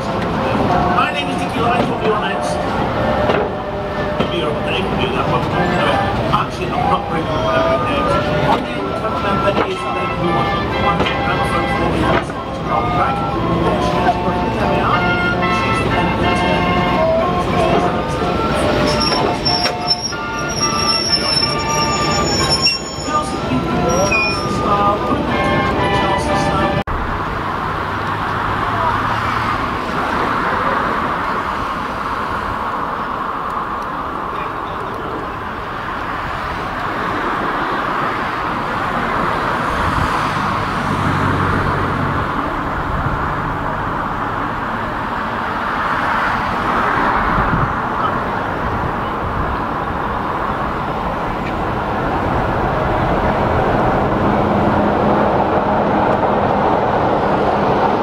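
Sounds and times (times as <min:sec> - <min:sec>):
diesel locomotive approaching: 0:00.0 - 0:58.0.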